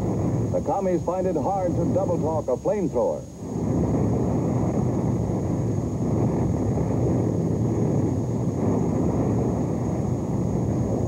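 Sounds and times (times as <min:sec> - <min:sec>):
flamethrower roar: 0:00.0 - 0:02.2, 0:03.3 - 0:11.0
tape hiss: 0:00.0 - 0:11.0.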